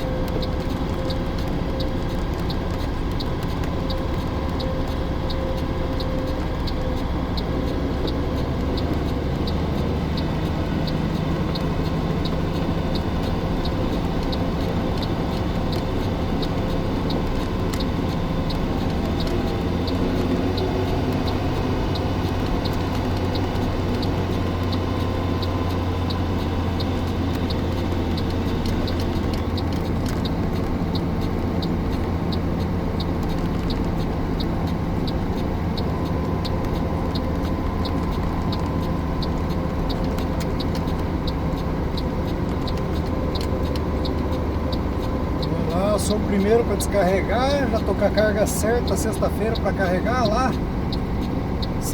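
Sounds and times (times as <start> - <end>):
diesel truck engine running: 0.0 - 51.9
light regular ticking: 0.0 - 51.9.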